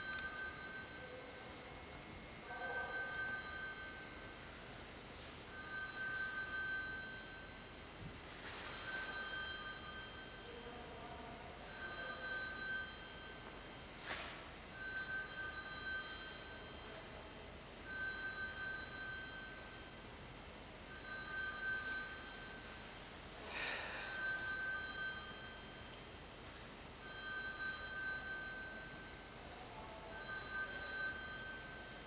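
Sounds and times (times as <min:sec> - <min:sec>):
multi-pitch ringing tone: 0:00.0 - 0:26.2, 0:27.0 - 0:32.0.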